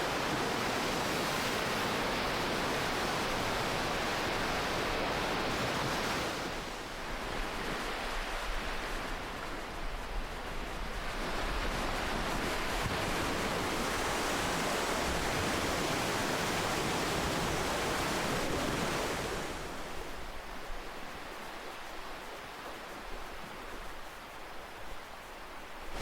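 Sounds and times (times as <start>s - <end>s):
ocean waves washing on shore: 0.0s - 26.0s.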